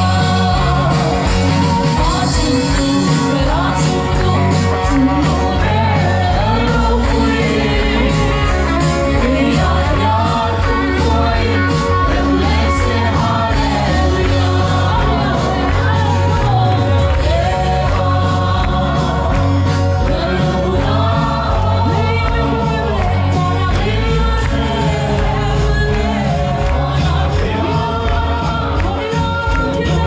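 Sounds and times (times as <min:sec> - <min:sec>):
bass: 0:00.0 - 0:30.0
steady drumbeat: 0:00.0 - 0:30.0
voices singing gospel song: 0:00.0 - 0:30.0.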